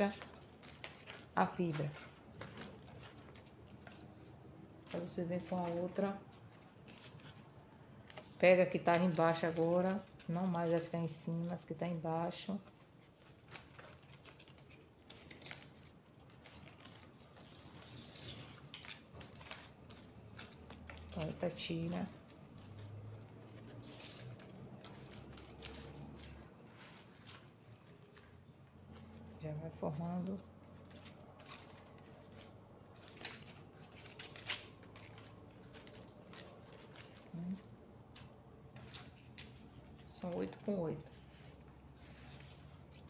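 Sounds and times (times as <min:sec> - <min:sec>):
dry leaf strips rustling: 0:00.0 - 0:43.0.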